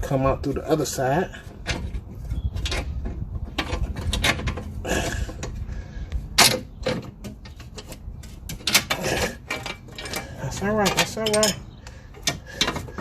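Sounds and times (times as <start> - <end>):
metallic clicks and knocks of car parts: 1.4 - 13.0.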